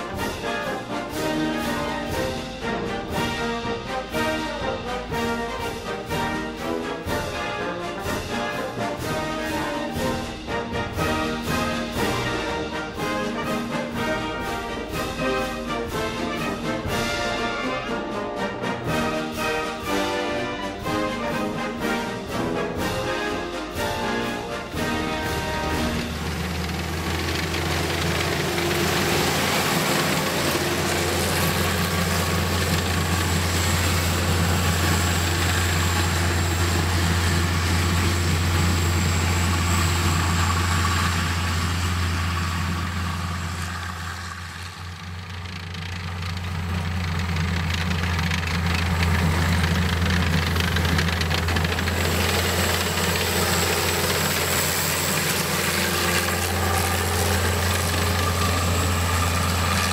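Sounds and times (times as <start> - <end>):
tracked vehicle engine running: 0.0 - 59.9.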